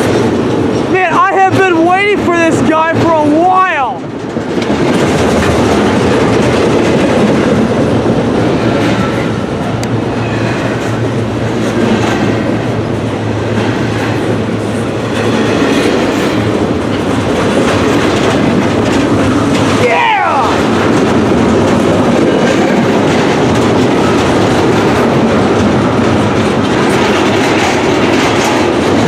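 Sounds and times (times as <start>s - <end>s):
train wheels rolling on rails: 0.0s - 29.0s.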